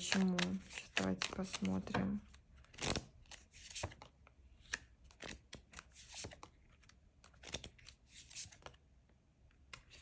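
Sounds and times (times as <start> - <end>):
cards shuffling and sliding: 0.0 - 8.8.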